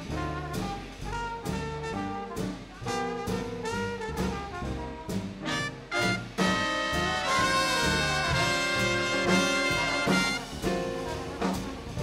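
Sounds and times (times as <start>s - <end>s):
solo trombone melody: 0.0s - 12.0s
swing big band playing: 0.0s - 12.0s.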